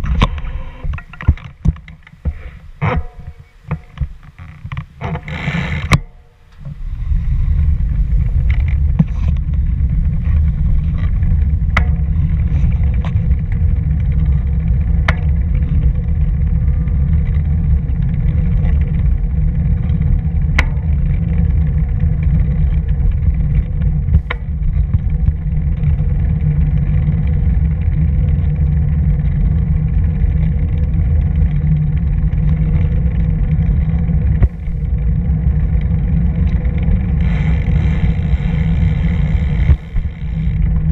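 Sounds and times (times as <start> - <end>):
road vibration rumble: 0.0 - 40.9
wind buffeting microphone: 5.7 - 40.9.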